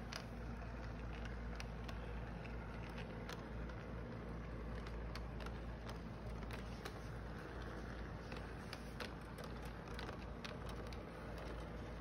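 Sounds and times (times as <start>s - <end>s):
light irregular clicks: 0.0s - 12.0s.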